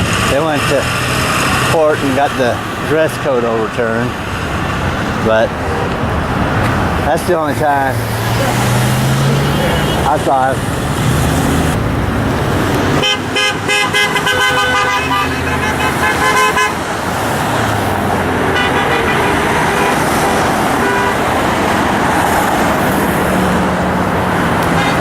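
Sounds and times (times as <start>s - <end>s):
car horns honking: 0.0s - 25.0s
freeway traffic: 0.0s - 25.0s.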